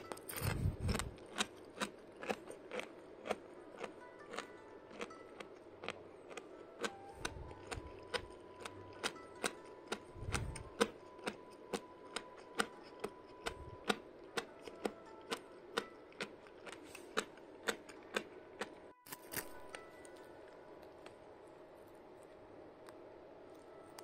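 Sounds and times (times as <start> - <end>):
crunchy food being chewed: 0.0 - 21.2.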